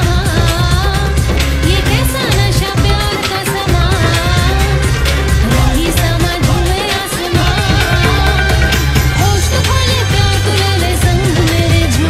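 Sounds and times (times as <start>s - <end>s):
music with steady beat: 0.0s - 12.0s
person singing melody: 1.7s - 12.0s.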